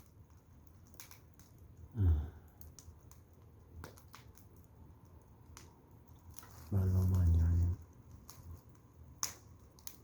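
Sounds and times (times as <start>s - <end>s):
wood fire crackling and popping: 0.0s - 10.0s.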